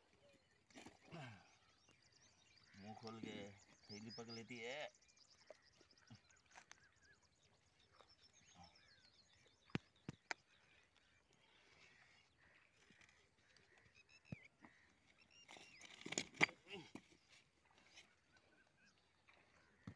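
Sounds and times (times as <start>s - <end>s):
faint bird chirps: 0.0s - 19.9s.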